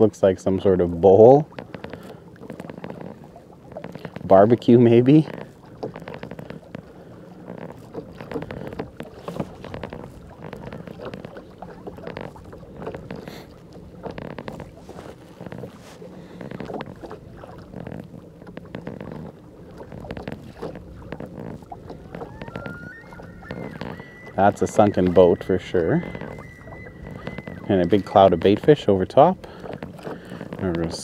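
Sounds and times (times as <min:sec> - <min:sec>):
water lapping against kayak hull: 0:00.0 - 0:31.0.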